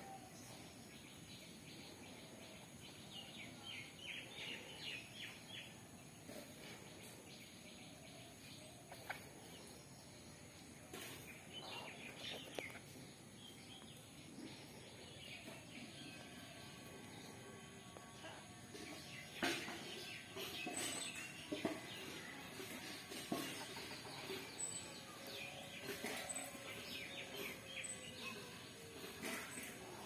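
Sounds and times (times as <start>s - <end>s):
faint outdoor background: 0.0s - 30.0s.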